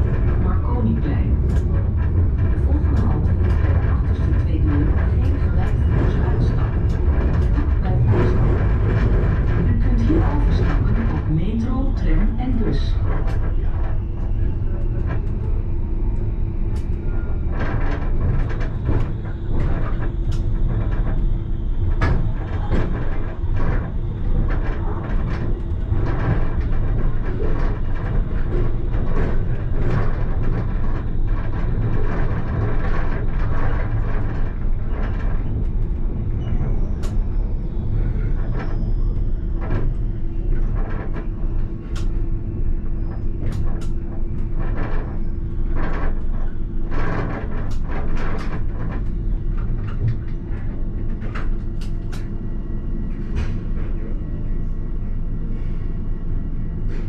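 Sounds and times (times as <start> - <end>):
track clicks and knocks: 0.0 - 54.2
constant hum: 0.0 - 57.0
tram wheels rumbling on rail: 0.0 - 57.0.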